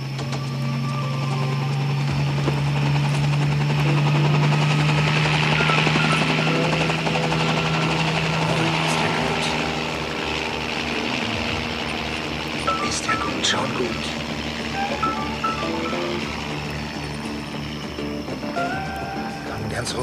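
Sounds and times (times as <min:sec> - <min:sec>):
helicopter rotor beating: 0:00.0 - 0:20.0
steady low drone: 0:00.0 - 0:20.0.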